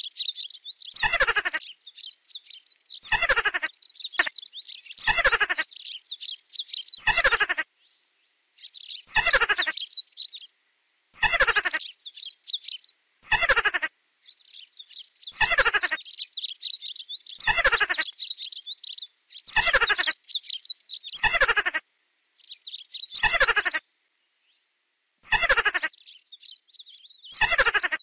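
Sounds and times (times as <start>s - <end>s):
songbirds twittering: 0.0s - 10.6s, 11.2s - 28.0s.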